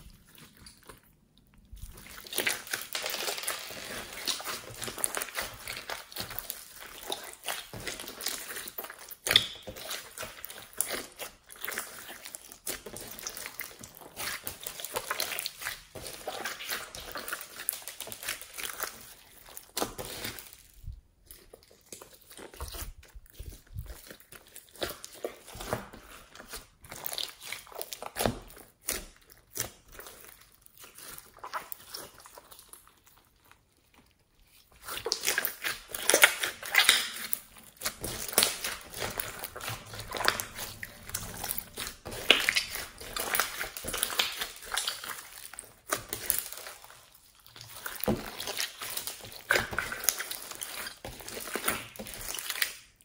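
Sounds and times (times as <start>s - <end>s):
slime squelching: 0.0s - 53.0s.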